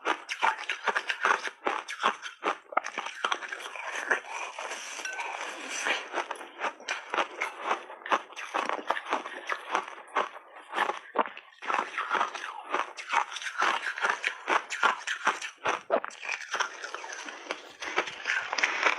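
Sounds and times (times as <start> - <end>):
ice being chewed crunching: 0.0 - 18.9.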